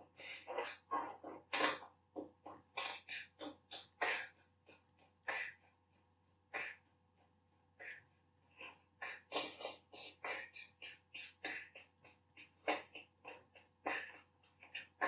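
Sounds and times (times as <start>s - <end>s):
man making breathy mouth sounds: 0.0s - 15.0s.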